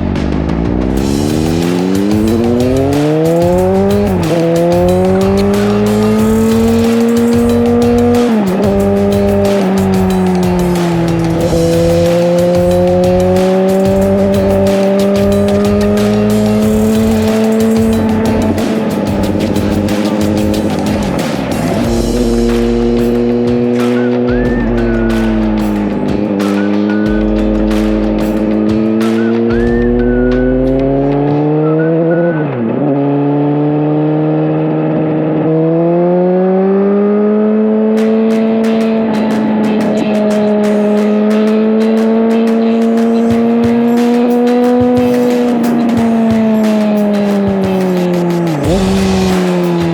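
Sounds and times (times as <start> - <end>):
motorcycle engine at high revs: 0.0 - 49.9.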